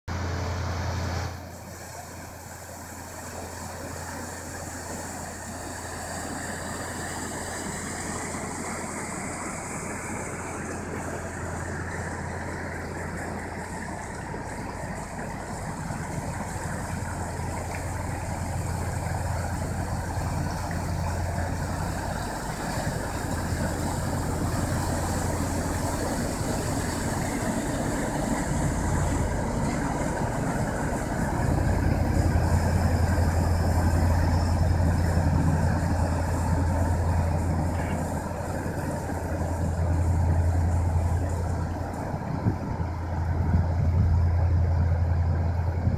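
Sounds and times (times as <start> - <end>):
ship engine humming: 0.1 - 45.9.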